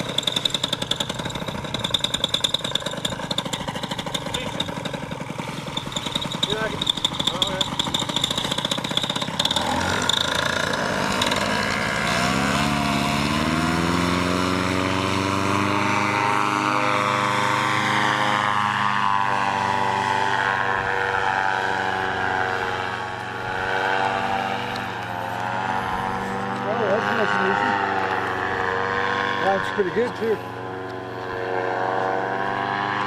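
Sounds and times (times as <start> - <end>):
paramotor engine and propeller: 0.0 - 33.0.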